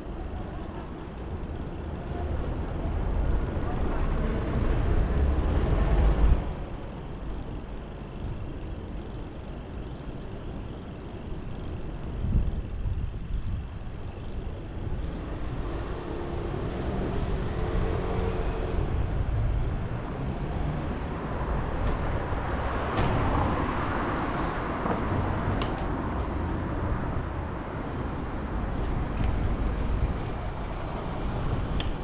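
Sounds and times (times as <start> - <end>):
wind and road rumble: 0.0 - 32.0.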